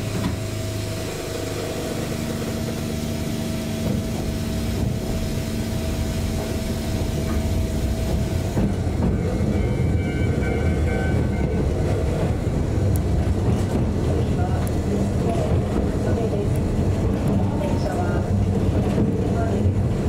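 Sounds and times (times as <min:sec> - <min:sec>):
electric train motors humming: 0:00.0 - 0:20.0.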